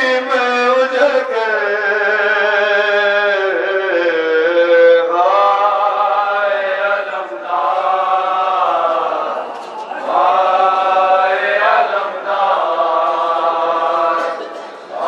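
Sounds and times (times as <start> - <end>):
man chanting through microphones: 0.0 - 15.0.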